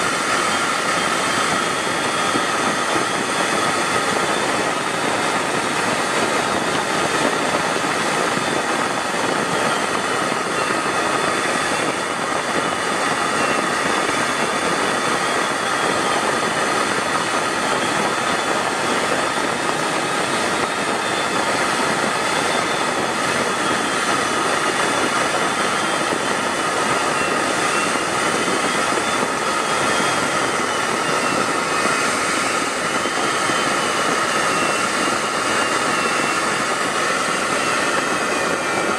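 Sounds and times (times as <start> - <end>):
faint high whine: 0.0 - 38.9
jet aircraft rushing: 0.0 - 38.9.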